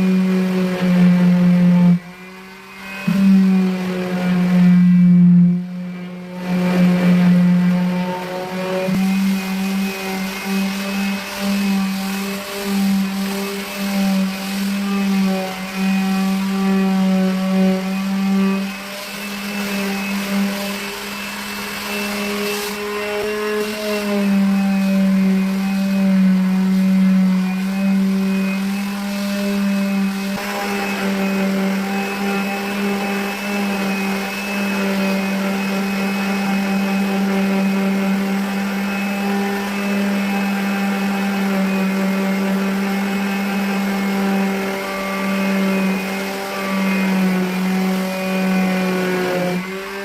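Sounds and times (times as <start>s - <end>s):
electric sander sanding wood: 0.0s - 50.0s.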